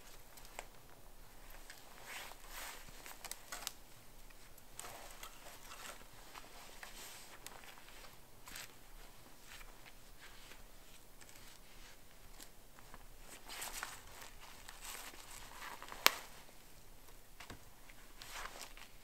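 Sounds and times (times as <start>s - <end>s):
quiet rustling: 0.0s - 19.0s.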